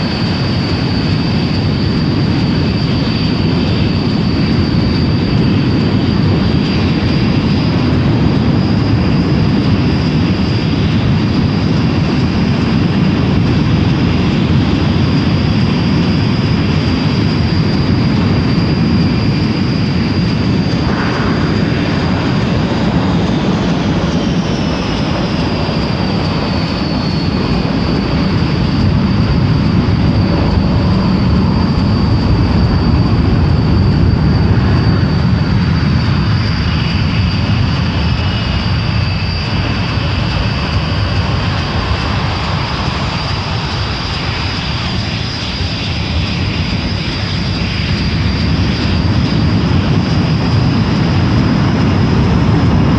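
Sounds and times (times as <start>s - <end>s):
jet engines running: 0.0s - 52.9s.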